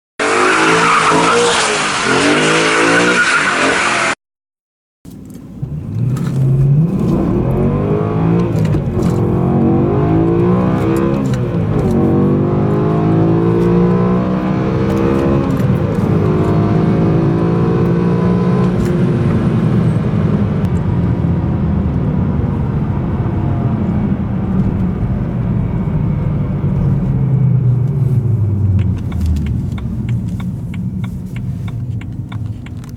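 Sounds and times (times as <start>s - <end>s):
car engine accelerating: 5.5s - 32.9s.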